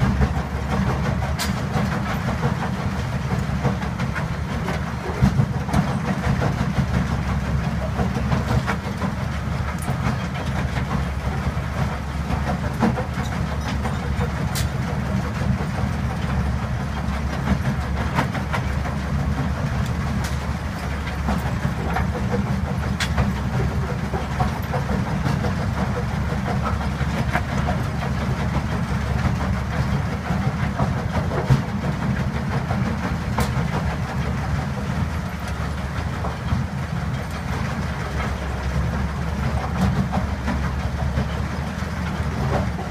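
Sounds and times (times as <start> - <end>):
crusher machine rumbling: 0.0 - 42.9.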